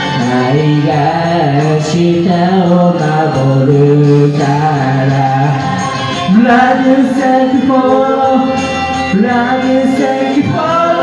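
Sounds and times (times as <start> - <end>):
people singing into microphones: 0.0 - 11.0
pop backing track playing loudly: 0.0 - 11.0.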